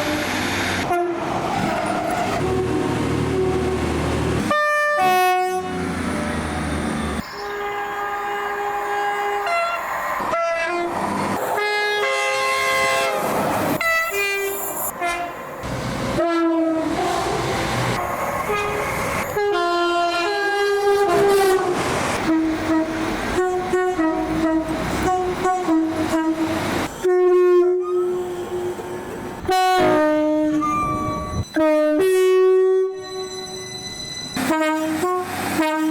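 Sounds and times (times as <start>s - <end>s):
train horn blasts: 0.0s - 1.3s, 2.4s - 5.8s, 7.3s - 11.0s, 11.6s - 13.2s, 13.8s - 15.4s, 16.1s - 17.4s, 18.5s - 33.7s, 34.4s - 35.9s.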